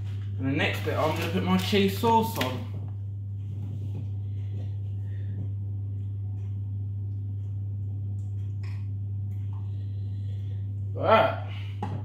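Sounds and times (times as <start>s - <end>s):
extractor fan humming: 0.0s - 12.0s.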